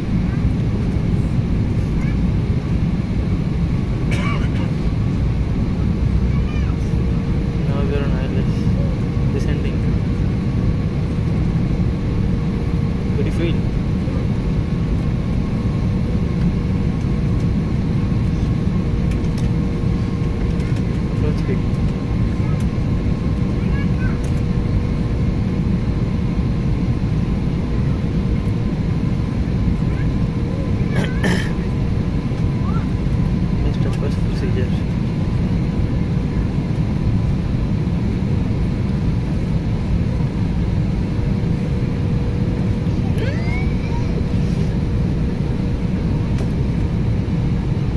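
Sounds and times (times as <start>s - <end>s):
airplane cabin rumble: 0.0s - 47.9s
faint steady hums: 0.0s - 47.9s.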